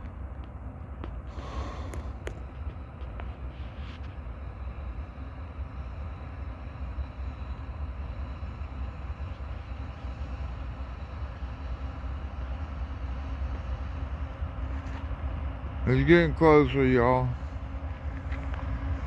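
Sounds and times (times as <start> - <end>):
diesel freight train rumbling: 0.0 - 19.0.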